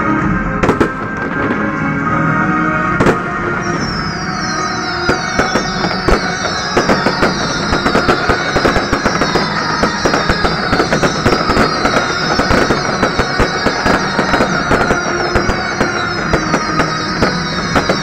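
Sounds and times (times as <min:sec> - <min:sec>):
falling fireworks whistles: 0:00.0 - 0:18.0
fireworks bangs and crackles: 0:00.0 - 0:18.0.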